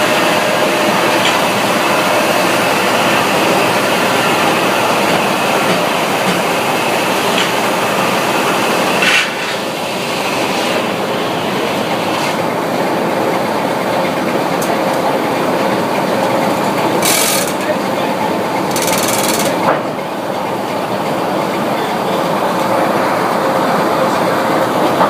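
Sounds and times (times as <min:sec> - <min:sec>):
sawmill machinery din: 0:00.0 - 0:25.0.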